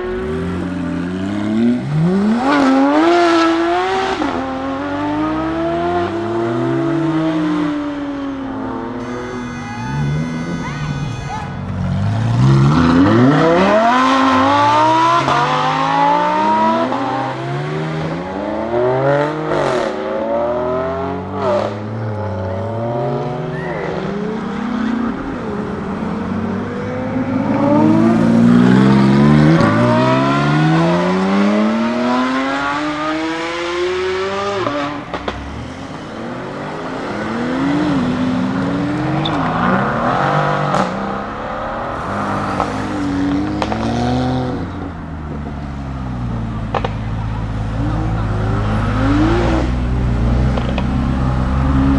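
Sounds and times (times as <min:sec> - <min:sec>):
sports car engine revving: 0:00.0 - 0:51.9.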